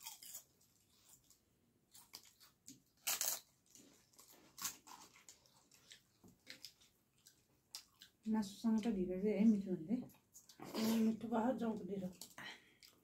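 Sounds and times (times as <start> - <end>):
chewing food: 0.0 - 9.0, 10.0 - 11.0, 11.7 - 13.0.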